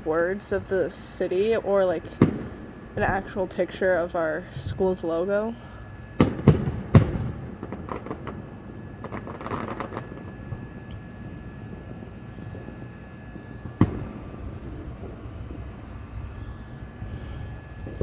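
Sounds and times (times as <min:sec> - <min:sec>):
fireworks bangs: 0:00.0 - 0:18.0
fireworks pops and crackles: 0:00.1 - 0:03.9, 0:06.0 - 0:18.0.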